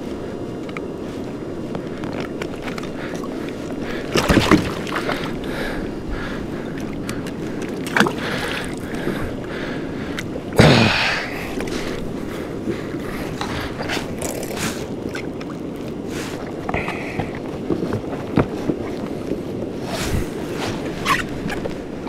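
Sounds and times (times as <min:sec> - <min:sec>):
water sloshing against hull: 0:01.8 - 0:10.6, 0:11.2 - 0:22.0.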